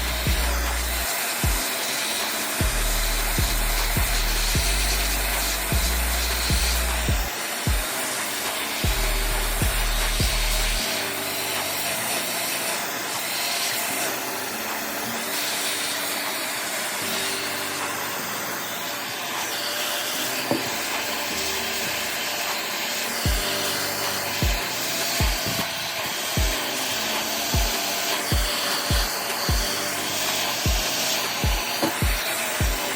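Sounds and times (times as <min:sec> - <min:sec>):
background music with low beat: 0:00.0 - 0:18.4, 0:20.1 - 0:32.9
whooshing machine noise: 0:00.0 - 0:32.9.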